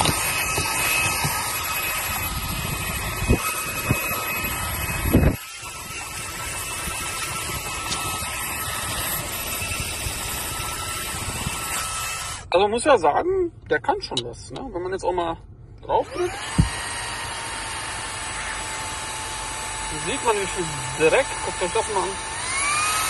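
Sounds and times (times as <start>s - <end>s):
handheld vacuum running: 0.0s - 12.4s, 16.0s - 23.0s.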